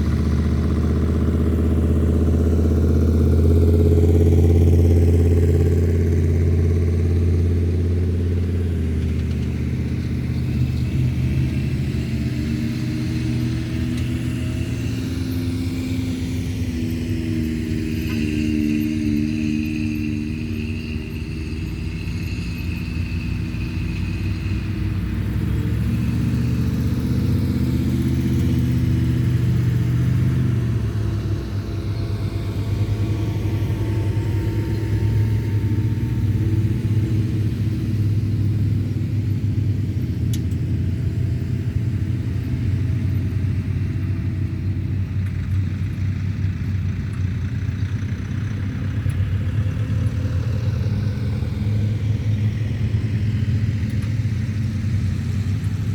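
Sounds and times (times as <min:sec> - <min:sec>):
off-road vehicle engine rumble: 0:00.0 - 0:55.9.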